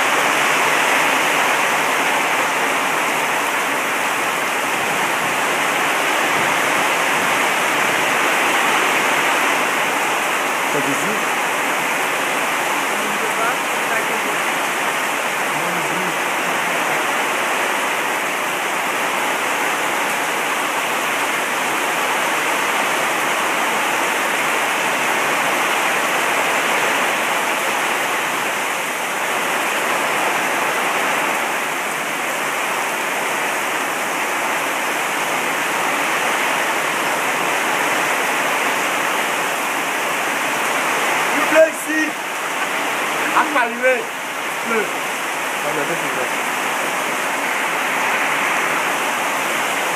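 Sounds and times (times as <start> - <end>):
rain pouring down: 0.0 - 49.9.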